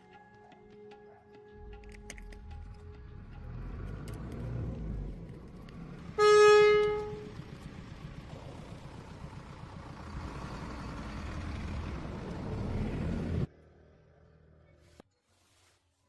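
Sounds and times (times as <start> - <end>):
car engine rumbling: 1.6 - 14.8.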